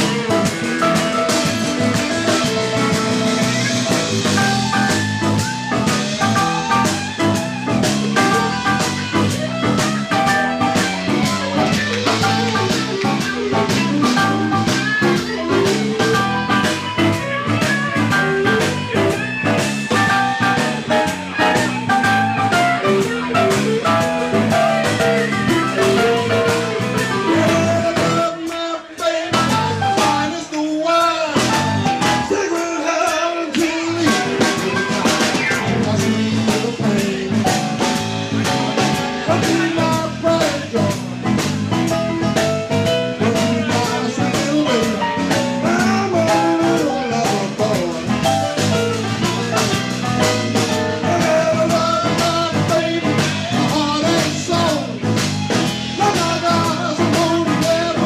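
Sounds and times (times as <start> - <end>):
drum kit hits: 0.0 - 30.4, 31.4 - 32.4, 33.0 - 58.0
electric blues band playing: 0.0 - 58.0.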